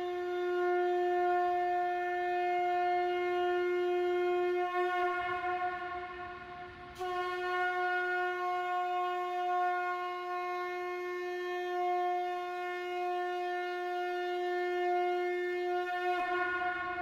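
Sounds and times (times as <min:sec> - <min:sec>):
conch shell blown: 0:00.0 - 0:17.0.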